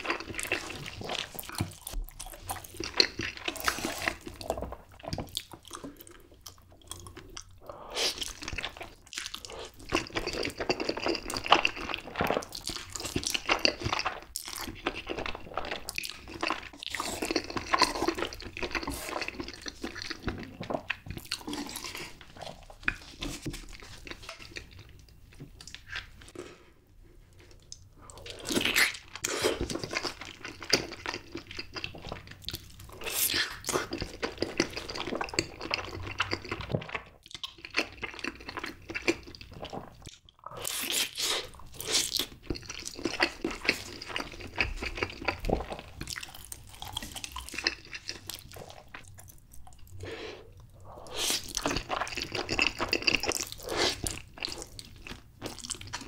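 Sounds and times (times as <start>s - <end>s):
wet chewing and smacking: 0.0s - 26.4s, 27.3s - 56.0s.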